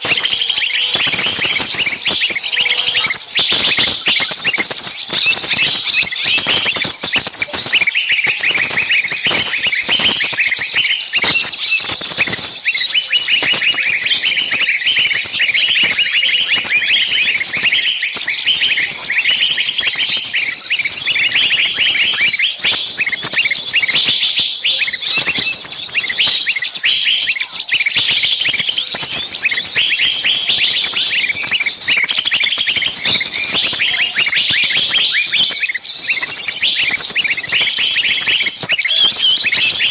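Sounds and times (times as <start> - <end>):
small birds chattering: 0.0 - 39.9.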